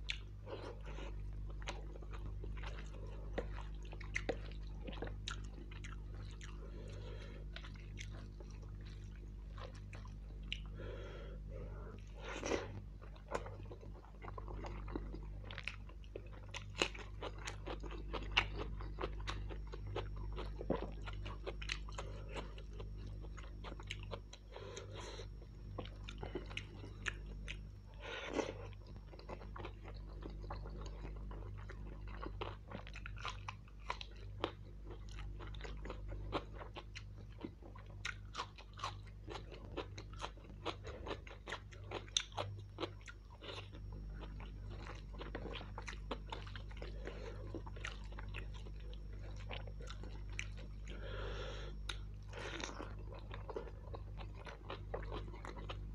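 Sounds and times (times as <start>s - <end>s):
man chewing and smacking: 0.0s - 55.9s
steady low hum: 0.0s - 55.9s.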